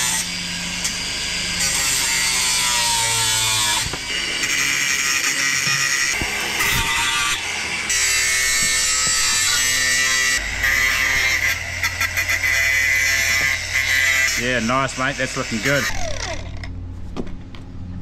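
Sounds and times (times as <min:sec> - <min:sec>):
angle grinder grinding steel: 0:00.0 - 0:16.7.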